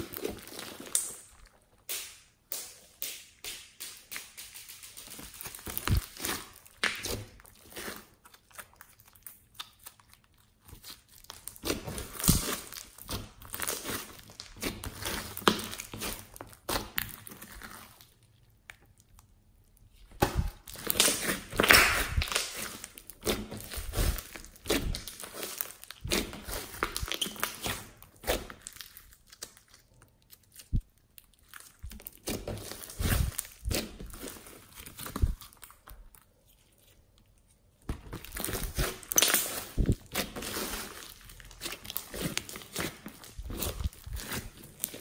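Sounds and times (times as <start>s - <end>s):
slime squished by hand: 0.0s - 19.3s, 19.9s - 45.0s.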